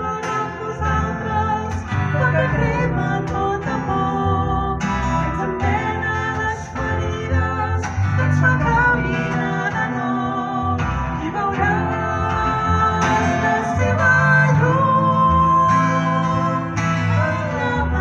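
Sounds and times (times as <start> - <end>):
acoustic guitars playing: 0.0 - 18.0
woman singing: 0.0 - 18.0.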